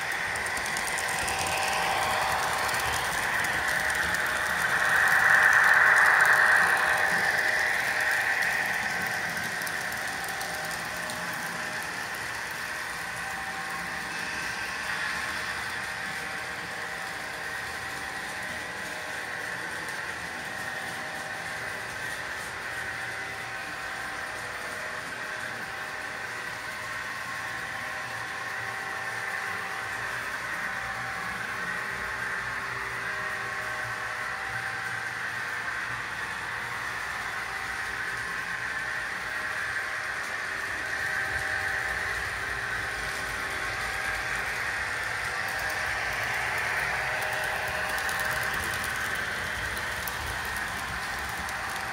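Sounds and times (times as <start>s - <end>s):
model train mechanical hum: 0.0s - 51.9s.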